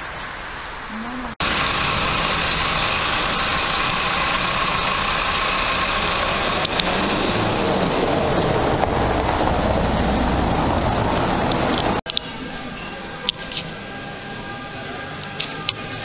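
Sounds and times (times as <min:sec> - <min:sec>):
car approaching: 0:00.0 - 0:16.0
minibus engine running: 0:00.0 - 0:16.0
road traffic noise: 0:00.0 - 0:16.0.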